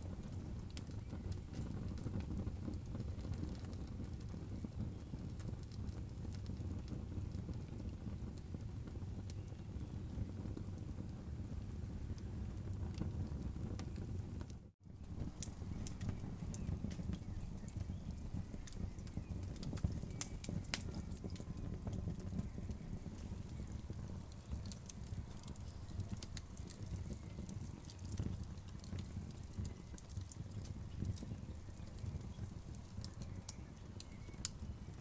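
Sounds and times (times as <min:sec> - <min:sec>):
low rumble of flames: 0:00.0 - 0:35.0
wood fire crackling: 0:00.0 - 0:35.0.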